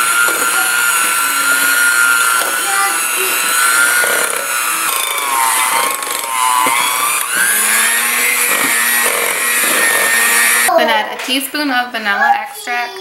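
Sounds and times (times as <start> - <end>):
electric mixer motor whining: 0.0 - 10.7.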